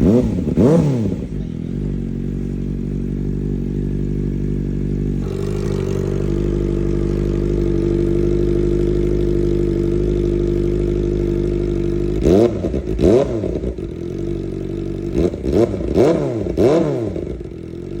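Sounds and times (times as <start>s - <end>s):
motorcycle engine idling: 0.0s - 18.0s
motorcycle engine revving: 0.0s - 18.0s.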